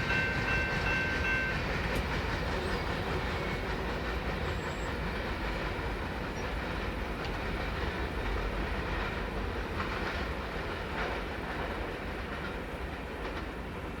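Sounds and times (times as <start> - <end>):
freight train cars rumbling past: 0.0 - 14.0.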